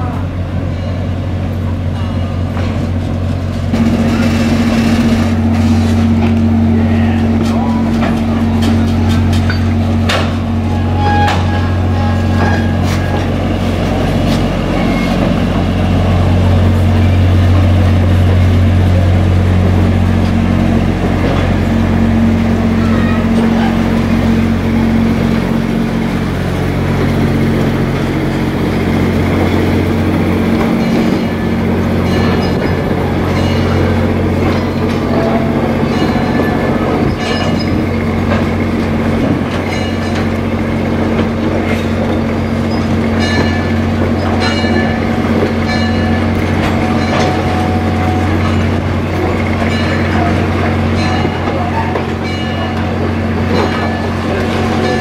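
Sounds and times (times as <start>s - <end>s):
train wheels clicking over rail joints: 0.6s - 55.0s.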